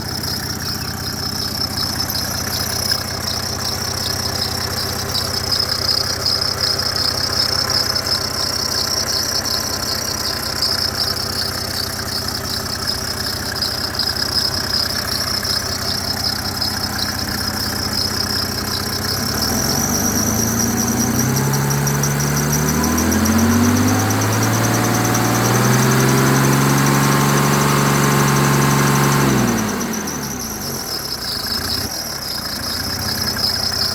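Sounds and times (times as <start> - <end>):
diesel engine idling and revving: 0.0 - 33.9
drive belt squealing: 0.0 - 33.9.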